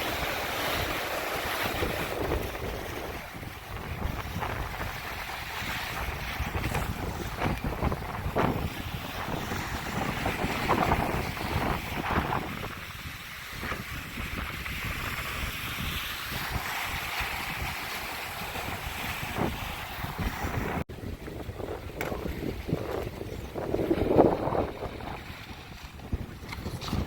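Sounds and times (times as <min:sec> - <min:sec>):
waves washing on beach: 0:00.0 - 0:27.0
wind buffeting microphone: 0:00.0 - 0:27.0.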